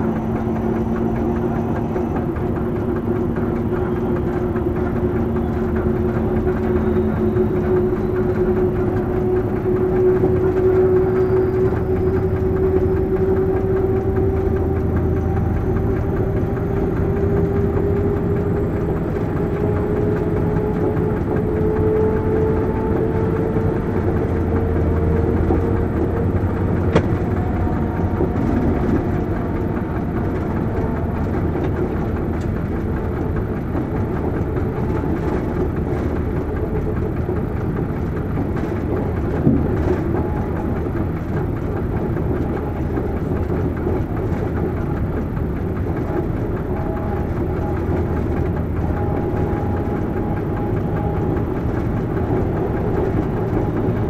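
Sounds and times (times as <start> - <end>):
diesel engine drone: 0.0 - 54.0
wheels running on rails: 0.0 - 54.0.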